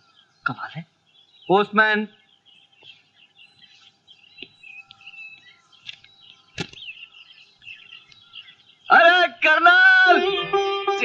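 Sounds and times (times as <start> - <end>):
birds chirping softly: 0.0 - 11.0.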